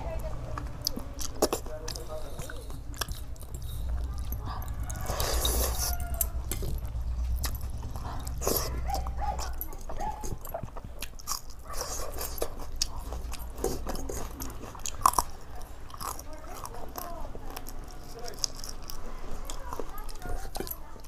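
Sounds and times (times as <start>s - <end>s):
chewing and lip clicks: 0.2s - 21.0s.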